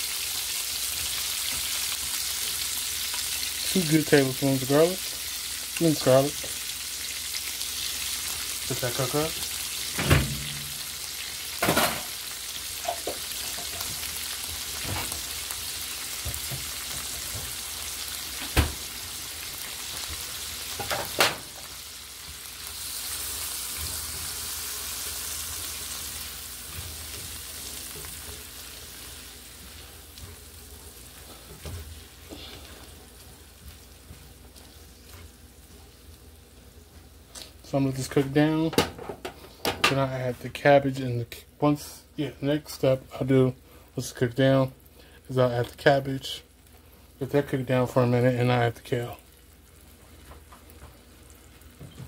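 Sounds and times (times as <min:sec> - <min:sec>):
vegetables sizzling in grease: 0:00.0 - 0:52.0.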